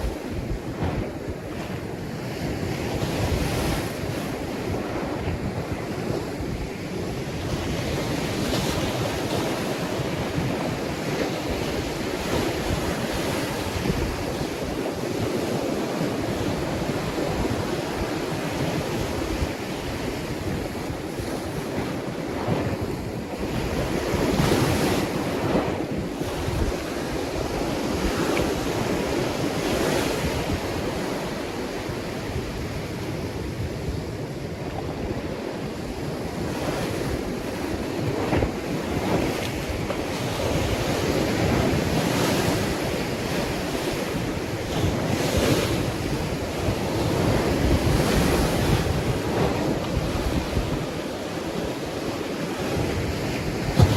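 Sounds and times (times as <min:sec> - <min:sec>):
ocean waves breaking: 0:00.0 - 0:53.9
wind buffeting microphone: 0:00.0 - 0:53.9.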